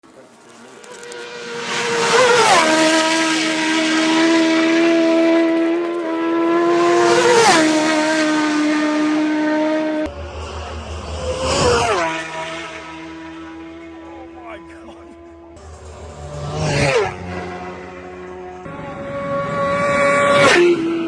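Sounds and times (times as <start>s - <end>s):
racing motorcycles passing by: 0.1s - 21.0s.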